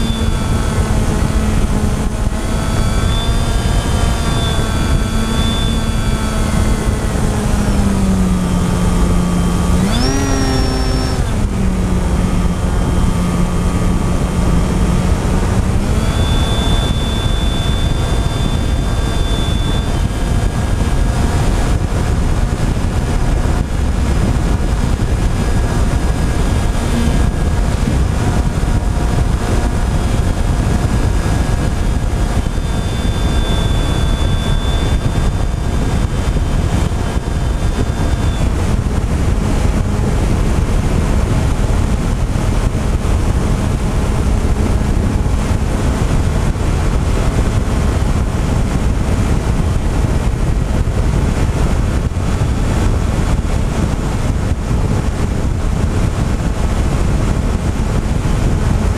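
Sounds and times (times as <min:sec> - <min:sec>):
drone motors whining: 0:00.0 - 0:58.9
wind buffeting microphone: 0:00.0 - 0:58.9.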